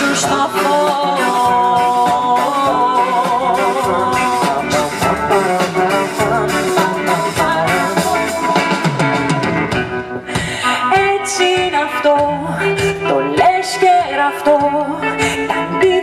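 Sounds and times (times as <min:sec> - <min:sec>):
pop song with guitar and beat: 0:00.0 - 0:16.0.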